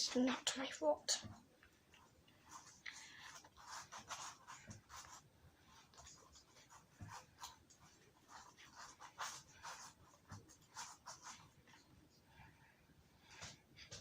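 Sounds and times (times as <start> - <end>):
slime squishing and rustling: 0.0 - 14.0.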